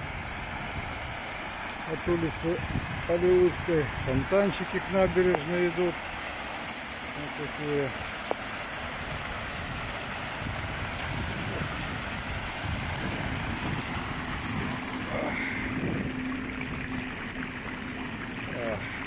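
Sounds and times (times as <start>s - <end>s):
fountain water splashing into basin: 0.0s - 19.0s.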